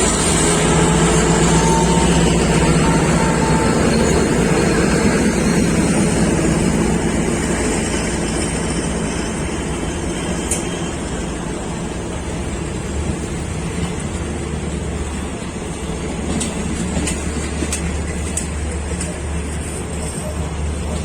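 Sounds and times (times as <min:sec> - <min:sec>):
diesel train running: 0:00.0 - 0:21.0.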